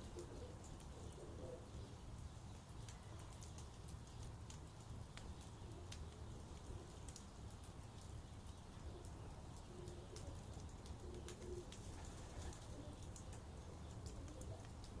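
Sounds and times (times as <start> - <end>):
low cooing bird calls: 0.0 - 4.4, 5.2 - 7.4, 8.0 - 15.0
campfire crackling and popping: 1.9 - 15.0.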